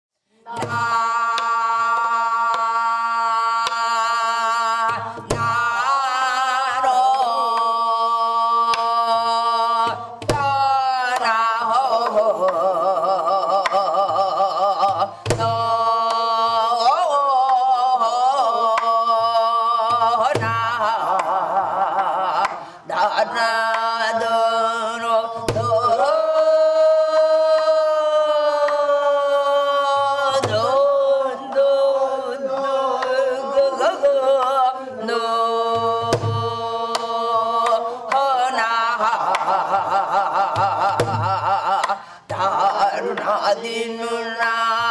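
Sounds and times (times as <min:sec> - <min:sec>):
traditional singing with wide vibrato: 0:00.2 - 0:44.9.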